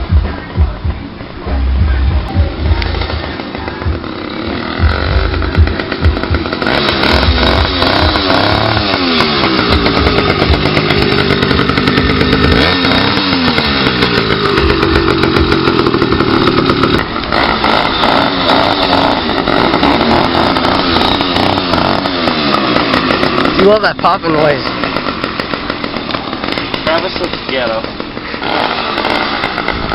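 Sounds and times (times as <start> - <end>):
two-stroke engine revving and popping: 0.0 - 29.9.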